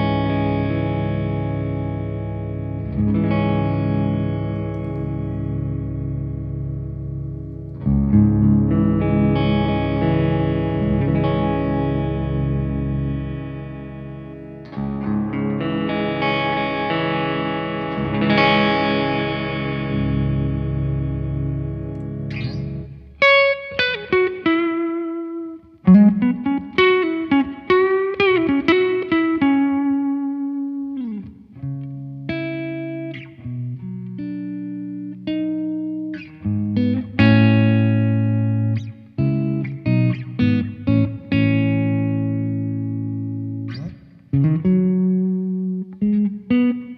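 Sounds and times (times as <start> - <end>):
electric guitar chords: 0.0 - 46.9
electric guitar lead line: 0.0 - 46.9.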